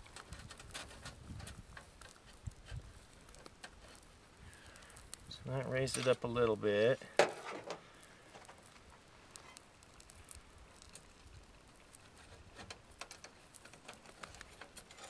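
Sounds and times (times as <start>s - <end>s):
coals crackling ticks: 0.0s - 15.0s.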